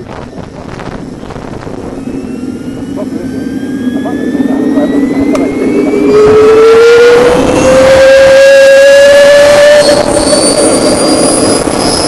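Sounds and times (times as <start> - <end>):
turbine engine whine: 0.0 - 12.0.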